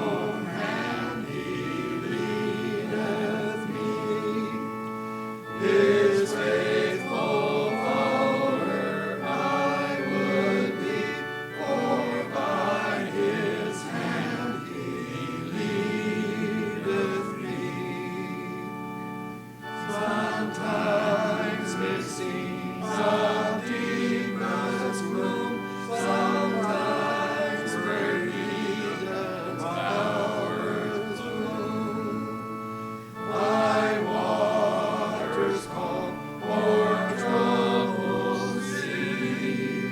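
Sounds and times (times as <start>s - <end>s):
congregation singing a hymn: 0.0s - 39.9s
sustained keyboard accompaniment: 0.0s - 39.9s.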